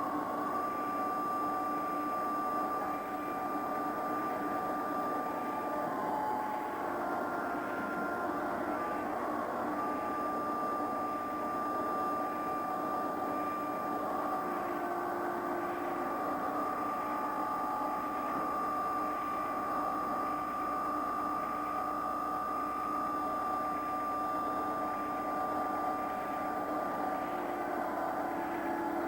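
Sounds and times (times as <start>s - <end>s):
machinery humming with whine: 0.0s - 29.0s.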